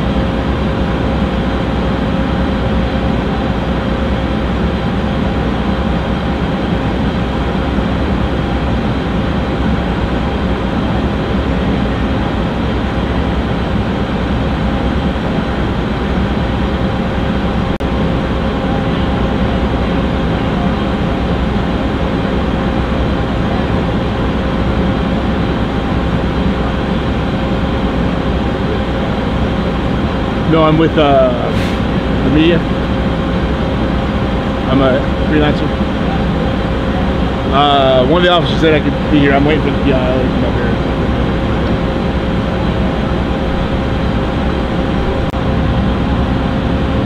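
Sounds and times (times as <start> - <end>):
diesel engine rumbling: 0.0 - 47.0.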